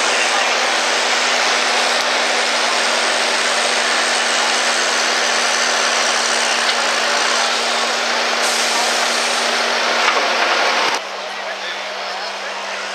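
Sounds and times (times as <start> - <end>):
tractor engines running: 0.0 - 12.9.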